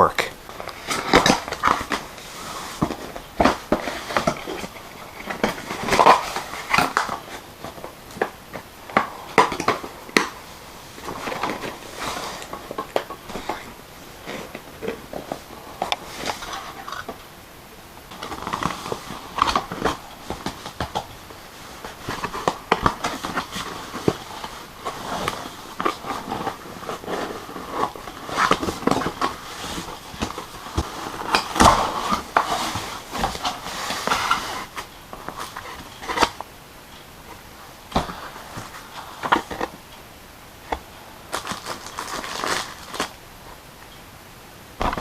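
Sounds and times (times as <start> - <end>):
packaging rustling and crinkling: 0.2 - 17.2, 18.0 - 36.5, 37.2 - 39.9, 40.6 - 43.2, 44.8 - 45.0.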